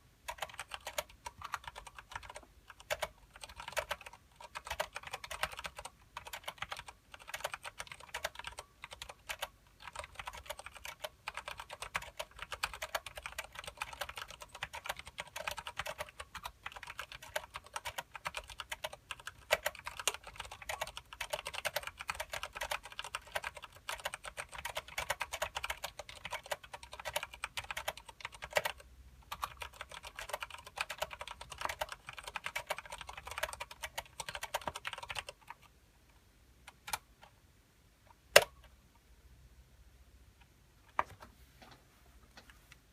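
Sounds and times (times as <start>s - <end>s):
fast typing on mechanical keyboard: 0.3s - 35.7s.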